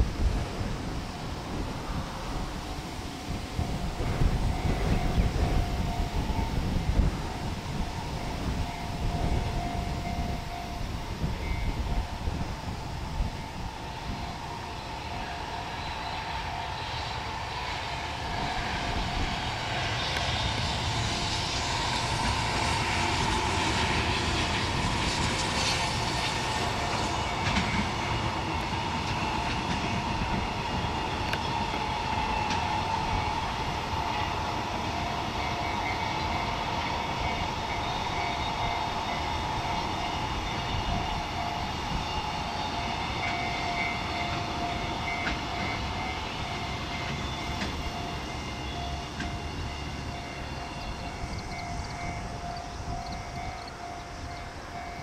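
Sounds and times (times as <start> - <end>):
freight train rumbling and clattering: 0.0 - 55.0
wind buffeting microphone: 0.0 - 55.0
steady high-pitched ring: 2.7 - 55.0.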